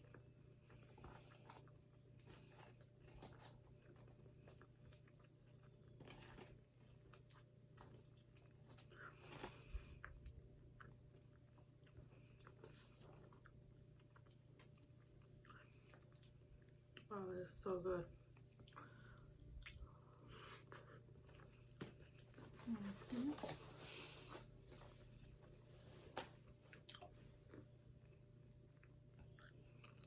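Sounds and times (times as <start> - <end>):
close-up chewing: 0.0 - 17.1, 18.1 - 24.0, 26.3 - 30.0.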